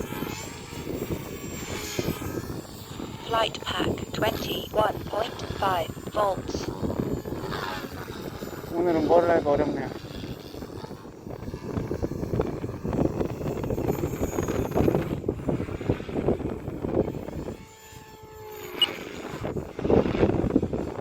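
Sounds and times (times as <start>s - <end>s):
rc helicopter rotor noise: 0.0s - 21.0s.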